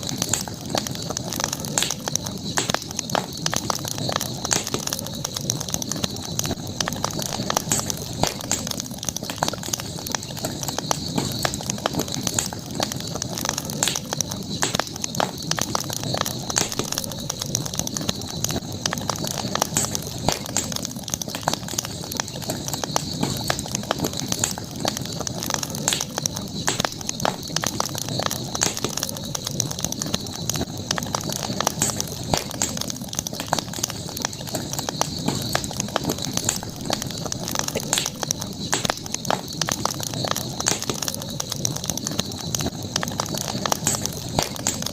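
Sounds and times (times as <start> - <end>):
campfire crackling and popping: 0.0 - 44.9
high-pitched hiss: 0.0 - 44.9.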